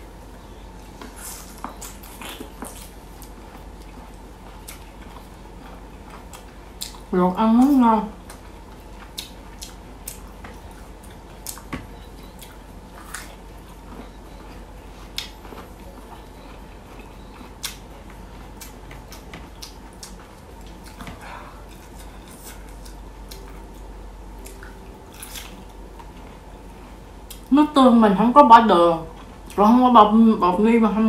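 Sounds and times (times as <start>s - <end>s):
steady low hum: 0.0s - 31.0s
person chewing: 0.8s - 27.5s.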